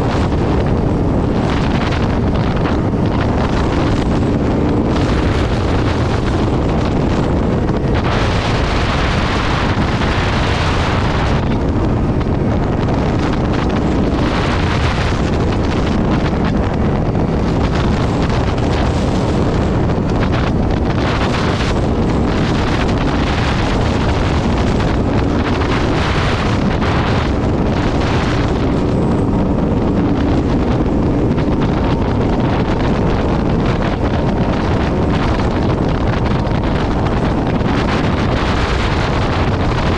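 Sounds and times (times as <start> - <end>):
motorcycle engine droning: 0.0 - 39.9
wind buffeting microphone: 0.0 - 39.9.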